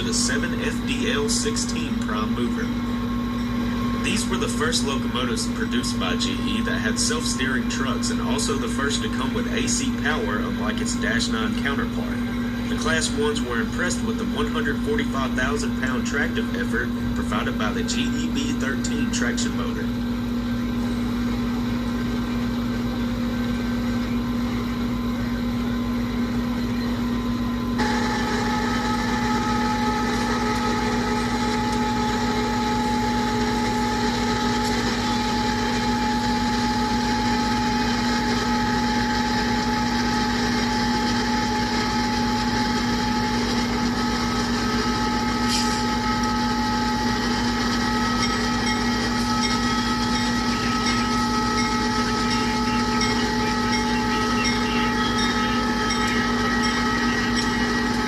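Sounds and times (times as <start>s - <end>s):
diesel locomotive droning: 0.0s - 58.0s.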